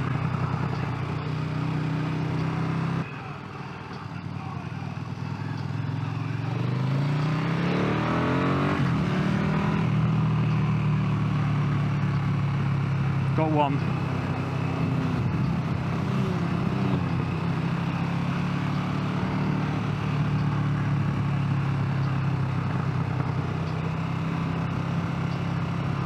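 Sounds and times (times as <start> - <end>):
motorcycle engine cruising: 0.0 - 26.0
wind and road noise: 0.0 - 26.0.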